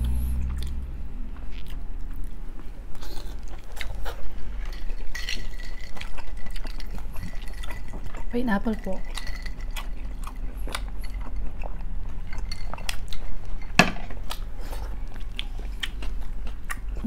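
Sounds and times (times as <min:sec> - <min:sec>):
person chewing and biting food: 0:00.0 - 0:08.3, 0:09.0 - 0:17.0.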